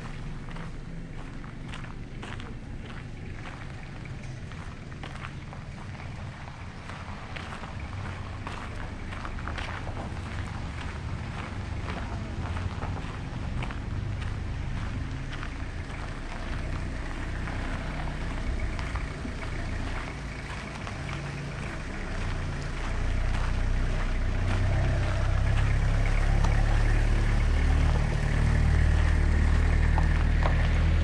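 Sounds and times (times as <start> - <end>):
truck engine running: 0.0 - 31.0
tyres on gravel: 0.0 - 31.0.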